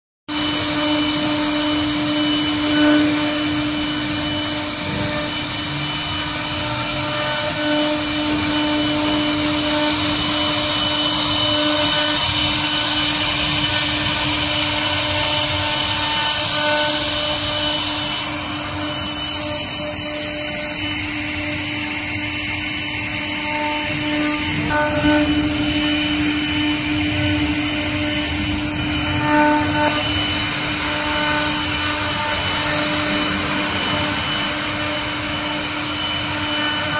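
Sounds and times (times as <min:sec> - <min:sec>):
router bits cutting wood: 0:00.3 - 0:36.9
router spindles whining: 0:00.3 - 0:36.9.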